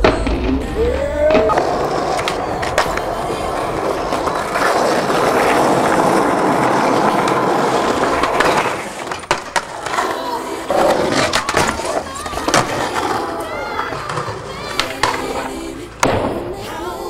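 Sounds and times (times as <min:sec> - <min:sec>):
skateboard wheels rolling on pavement: 0:00.0 - 0:16.3
skateboard clacks: 0:00.0 - 0:16.6.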